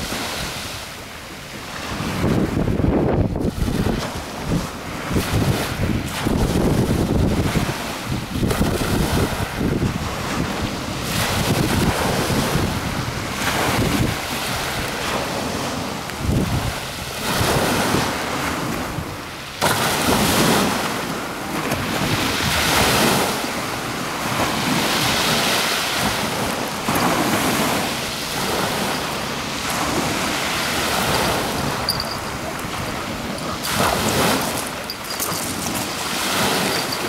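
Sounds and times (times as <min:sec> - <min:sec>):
wind buffeting microphone: 0:01.7 - 0:37.0.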